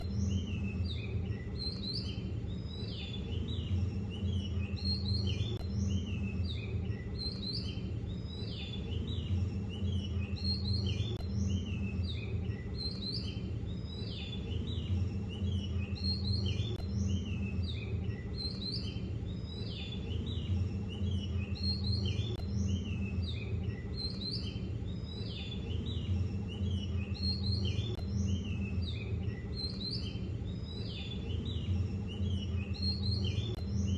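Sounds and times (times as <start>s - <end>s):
birds chirping and singing: 0.0s - 33.9s
steady low hum: 0.0s - 33.9s.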